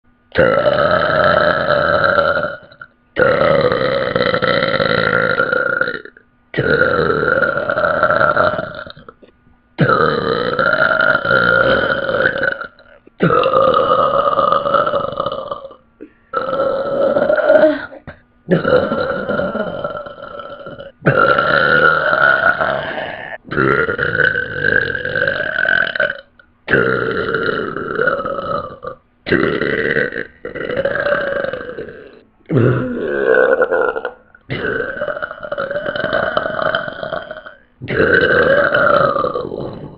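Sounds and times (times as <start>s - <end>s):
woman burping loudly: 0.3s - 39.9s.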